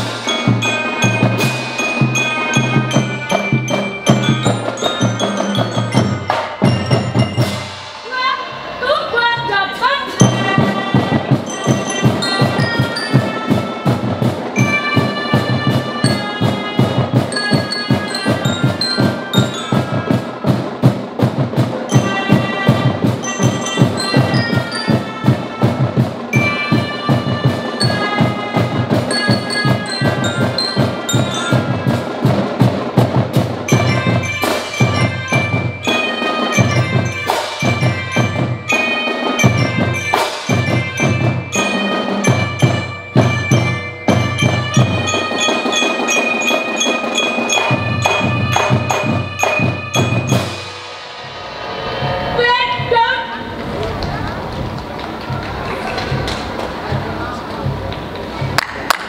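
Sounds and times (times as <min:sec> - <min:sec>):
marching band playing: 0:00.0 - 0:59.0.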